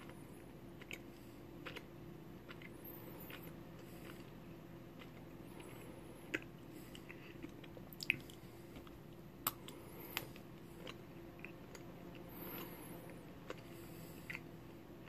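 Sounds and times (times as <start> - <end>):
mouth chewing sounds: 0.0 - 14.8.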